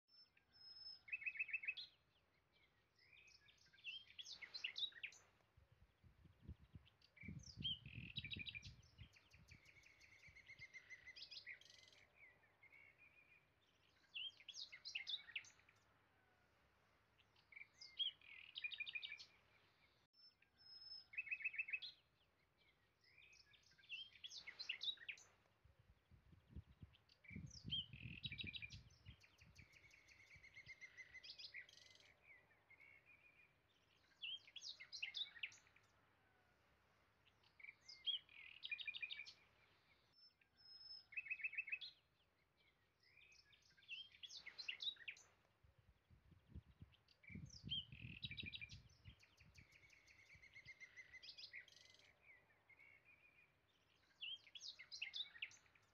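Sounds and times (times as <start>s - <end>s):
songbirds chirping and trilling: 0.0s - 55.9s.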